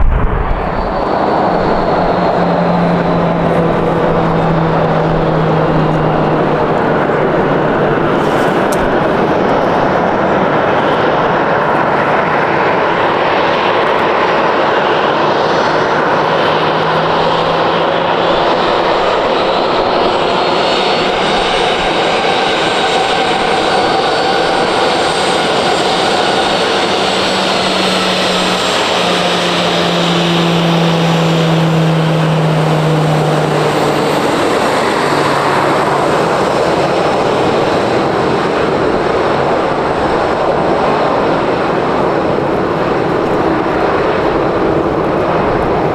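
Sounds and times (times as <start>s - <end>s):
jet engines passing: 0.0s - 45.9s.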